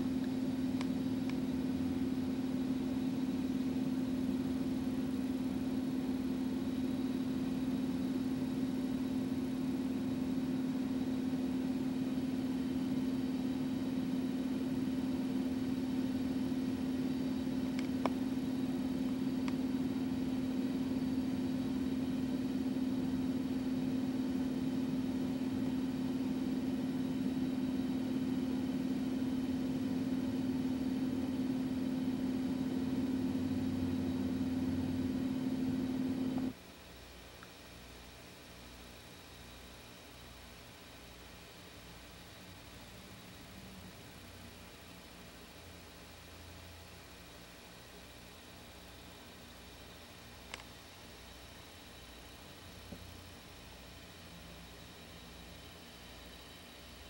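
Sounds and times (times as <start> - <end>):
steady machine hum: 0.0 - 57.0.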